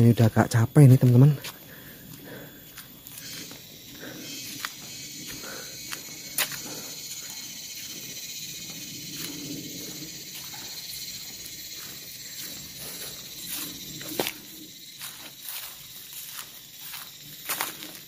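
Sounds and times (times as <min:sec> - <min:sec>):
cicadas and crickets chirring: 0:00.0 - 0:18.0
footsteps on dirt path: 0:01.0 - 0:18.0.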